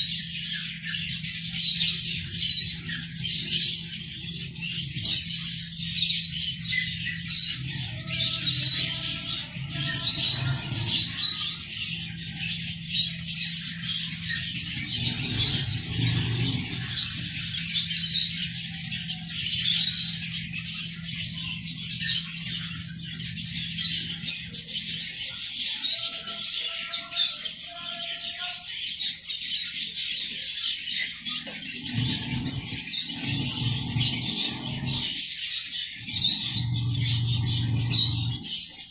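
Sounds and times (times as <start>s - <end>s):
ducklings and chicks peeping: 0.0s - 35.2s, 35.8s - 38.9s.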